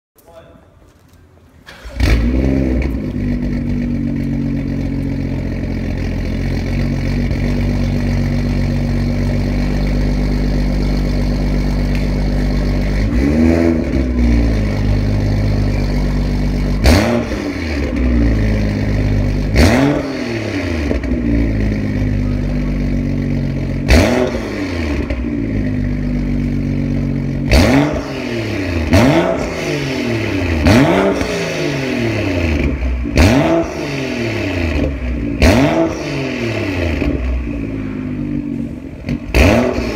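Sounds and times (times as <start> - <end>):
car engine starting and idling: 1.0 - 39.9
car engine revving: 1.7 - 39.9.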